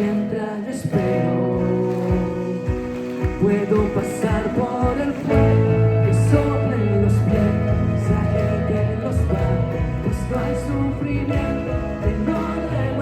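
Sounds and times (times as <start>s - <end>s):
band playing worship song: 0.0s - 13.0s
heavy bass line: 1.3s - 13.0s.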